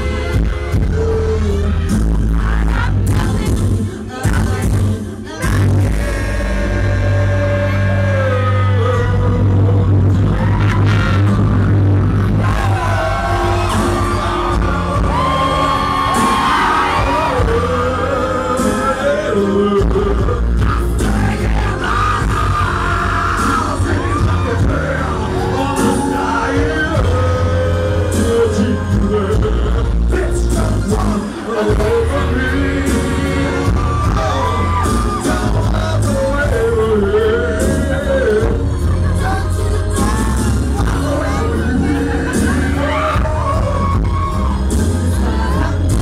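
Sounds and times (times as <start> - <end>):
pop song through sound system: 0.0 - 46.0.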